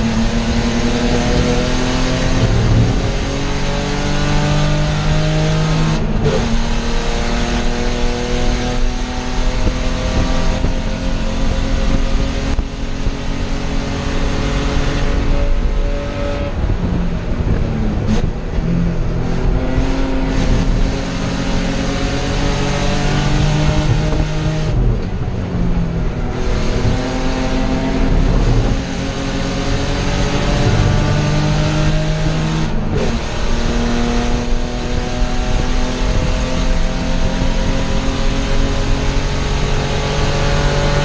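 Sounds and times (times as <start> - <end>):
race car engine revving: 0.0 - 41.0
road and drivetrain noise: 0.0 - 41.0.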